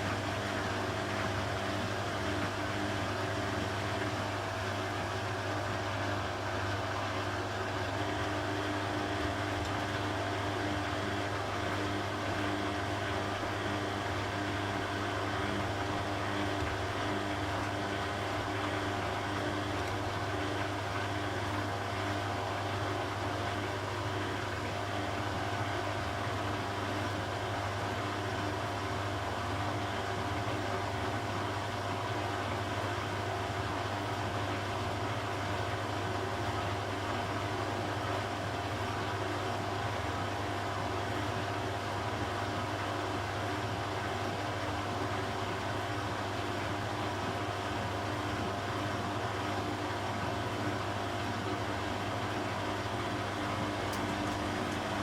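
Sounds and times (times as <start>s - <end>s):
washing machine motor humming: 0.0s - 55.0s.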